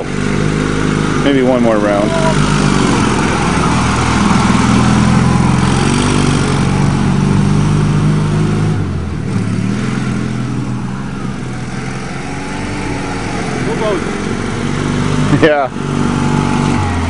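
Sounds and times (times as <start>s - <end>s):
atv engine under throttle: 0.0s - 17.0s.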